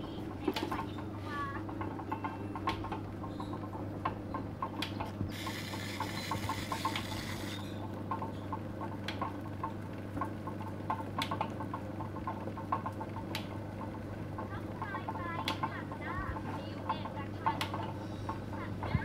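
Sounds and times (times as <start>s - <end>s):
potter's wheel humming: 0.0s - 19.0s.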